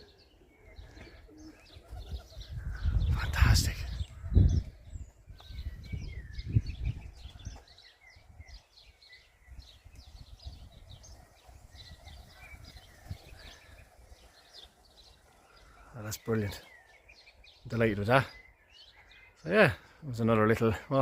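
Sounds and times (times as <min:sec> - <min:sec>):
small birds chirping and singing: 0:00.0 - 0:21.0.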